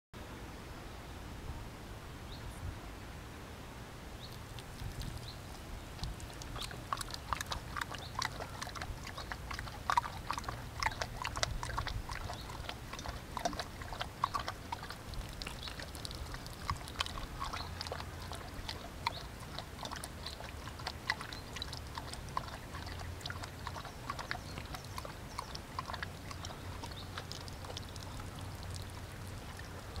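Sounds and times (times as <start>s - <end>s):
dog lapping water: 4.3s - 30.0s
water trickling onto metal grate: 4.3s - 30.0s.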